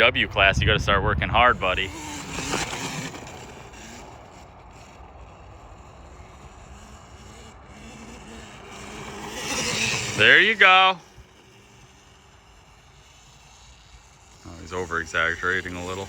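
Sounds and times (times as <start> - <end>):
dirt bike engine: 0.0 - 16.0.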